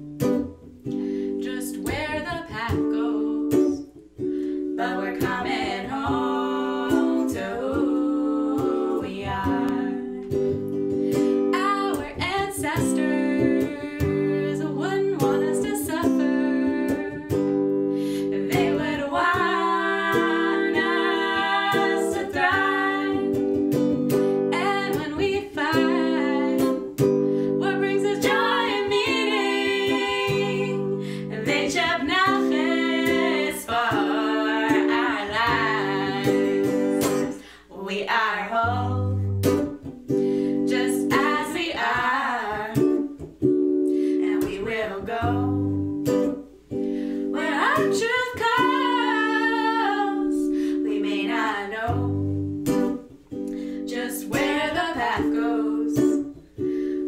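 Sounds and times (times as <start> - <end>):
women singing: 1.3 - 3.9, 4.6 - 43.3, 44.0 - 46.3, 47.2 - 53.0, 53.8 - 56.4.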